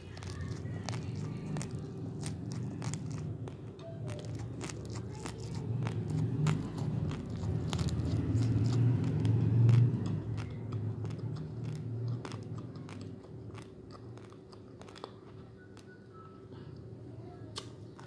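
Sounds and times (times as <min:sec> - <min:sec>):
dry rice crunching while chewed: 0:00.0 - 0:16.0.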